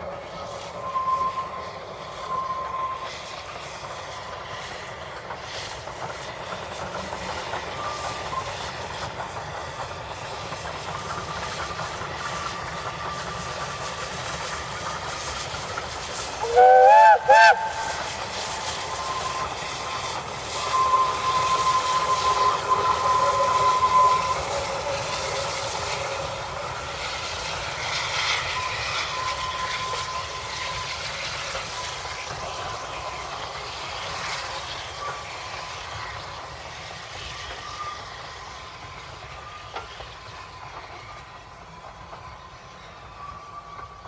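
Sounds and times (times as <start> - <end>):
steam hiss: 0.0 - 44.0
steam train running: 0.0 - 44.0.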